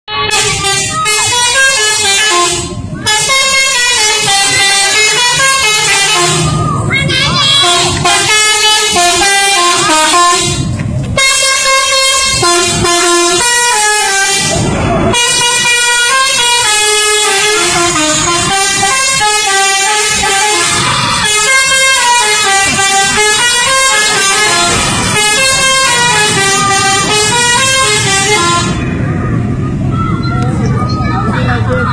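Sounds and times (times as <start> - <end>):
multi-tone air horns playing tune: 0.1 - 6.6, 7.4 - 28.8.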